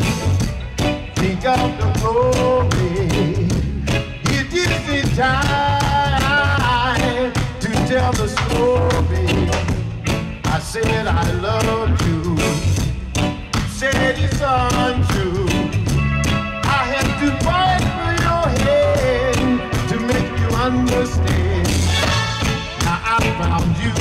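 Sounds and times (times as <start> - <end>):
live reggae band playing: 0.0 - 24.0
man singing lead vocal: 1.0 - 12.9, 13.5 - 24.0.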